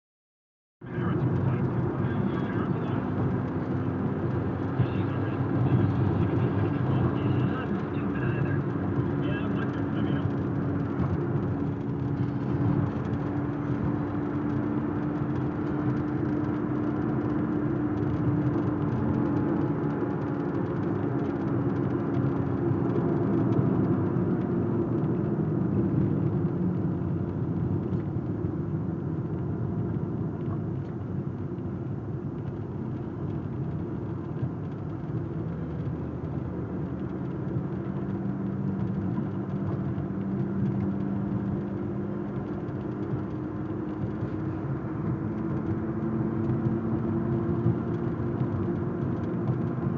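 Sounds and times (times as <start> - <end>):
engine and tyre rumble: 0.8 - 49.9.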